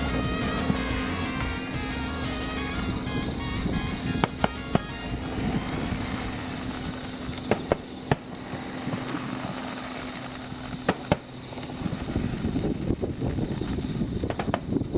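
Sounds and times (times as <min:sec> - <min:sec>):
fireworks popping: 0:00.0 - 0:14.9
steady hiss: 0:00.0 - 0:14.9.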